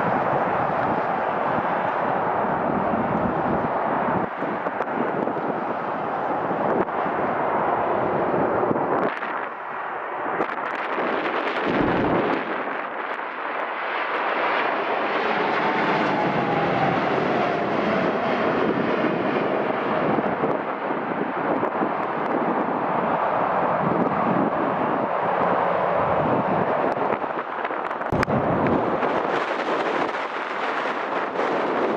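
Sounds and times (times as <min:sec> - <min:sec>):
airliner passing overhead: 0:00.0 - 0:31.9.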